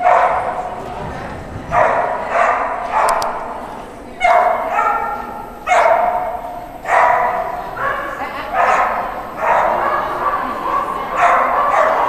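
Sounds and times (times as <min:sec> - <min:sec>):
dog barking: 0:00.0 - 0:00.8, 0:01.7 - 0:03.5, 0:04.2 - 0:12.0.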